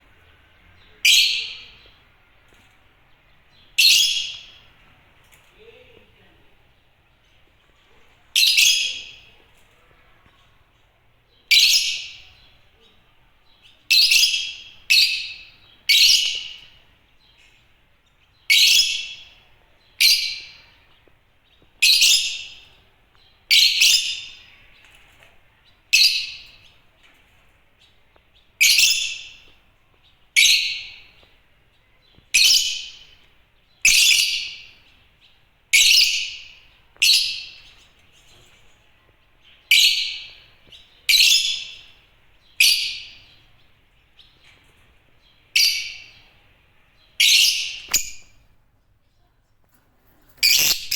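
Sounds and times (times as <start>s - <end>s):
lovebirds chirping: 0.0s - 50.9s.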